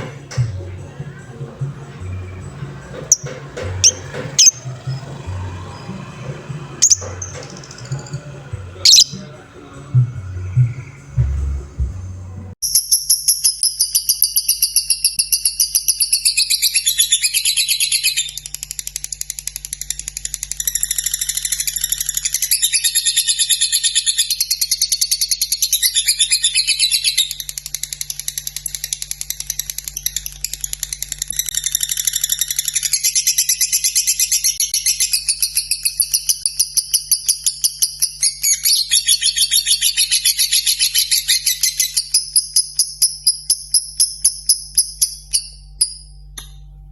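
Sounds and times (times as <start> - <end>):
lovebird chattering song: 1.2 - 5.9, 6.8 - 11.4, 12.6 - 46.1.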